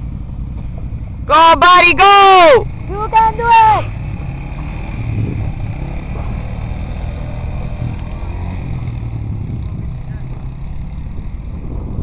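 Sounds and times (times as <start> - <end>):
atv engines running: 0.0 - 12.0.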